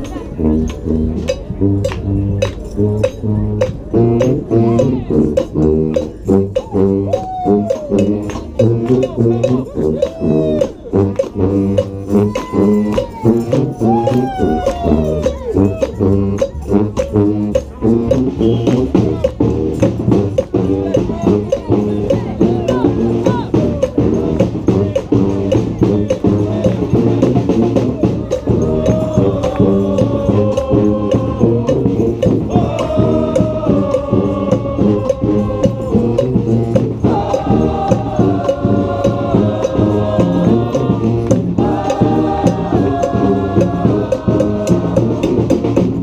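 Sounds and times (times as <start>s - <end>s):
busy drum beat: 0.0s - 46.0s
horns holding long chords: 0.0s - 46.0s.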